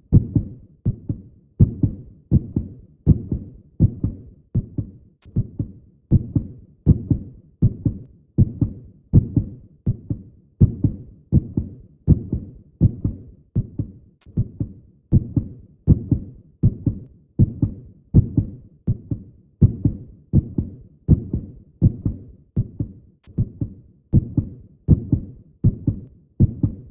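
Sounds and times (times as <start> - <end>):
heartbeat double thumps: 0.1 - 26.9.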